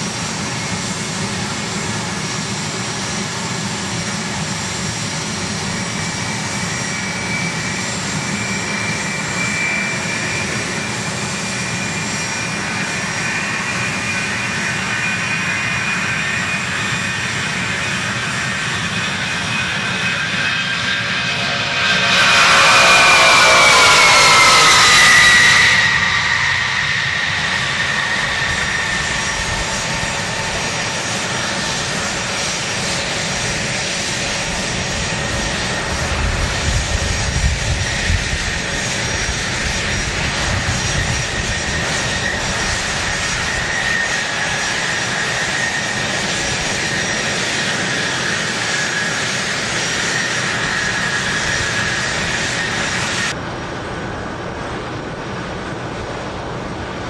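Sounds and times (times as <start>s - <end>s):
jet engine turbine whine: 0.0s - 57.0s
steady jet noise: 0.0s - 57.0s.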